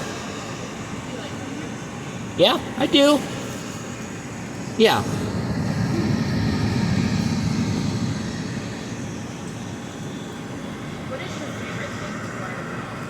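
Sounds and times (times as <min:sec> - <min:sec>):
dehumidifier whirring: 0:00.0 - 0:12.7.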